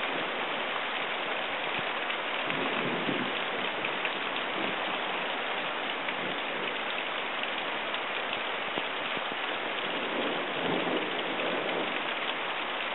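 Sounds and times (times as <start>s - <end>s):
steady rain: 0.0s - 12.9s.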